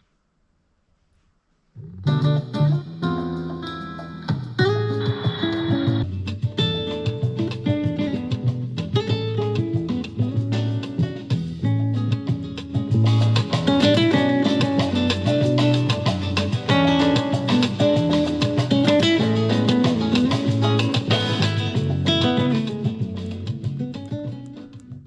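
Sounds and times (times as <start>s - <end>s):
latin guitar music on speaker: 1.8s - 25.0s.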